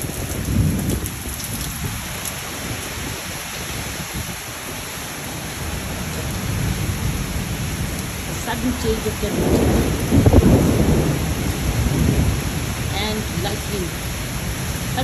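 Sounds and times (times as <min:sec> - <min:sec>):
heavy rain and hail: 0:00.0 - 0:15.0
low thunder rumble: 0:00.0 - 0:15.0
strong wind in trees: 0:00.0 - 0:15.0.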